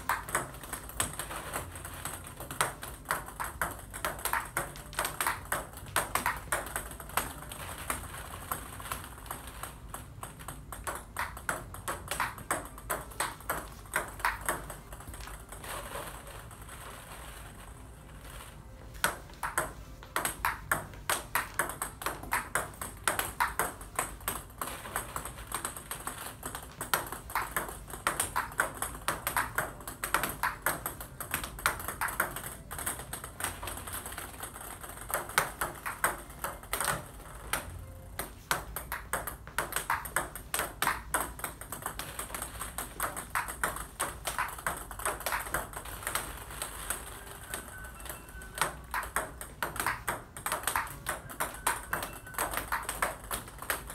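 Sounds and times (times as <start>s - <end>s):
table tennis ball clicks: 0.0s - 16.8s, 18.3s - 53.9s.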